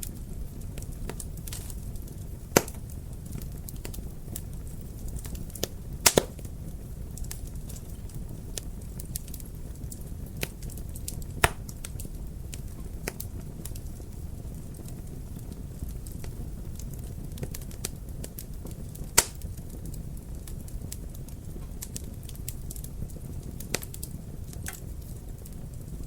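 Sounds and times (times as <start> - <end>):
sharp fire pops: 0.0 - 14.0, 15.8 - 25.6
wood fire crackling: 0.0 - 26.0.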